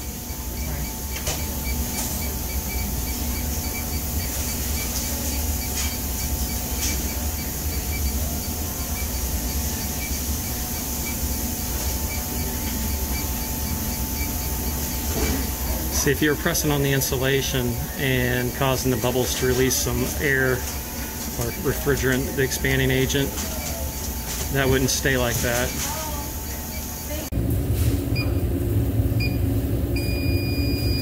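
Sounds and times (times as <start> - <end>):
refrigeration unit humming: 0.0 - 31.0.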